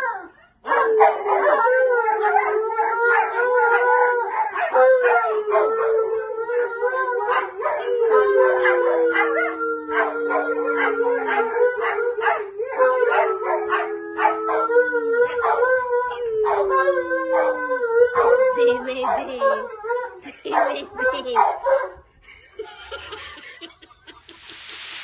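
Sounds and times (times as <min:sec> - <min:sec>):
dogs howling: 0:00.0 - 0:22.0.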